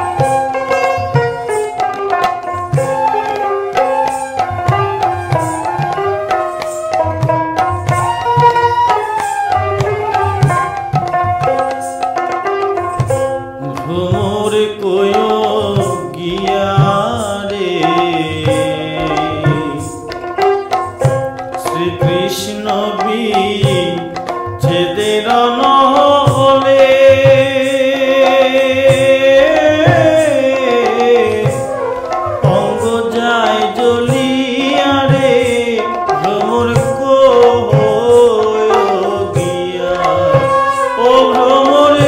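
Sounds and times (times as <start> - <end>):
hand drum rhythm: 0.0 - 42.0.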